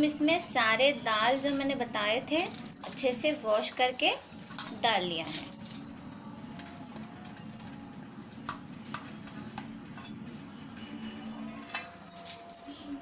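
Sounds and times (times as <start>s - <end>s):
utensils clinking on pot: 0.3s - 13.0s.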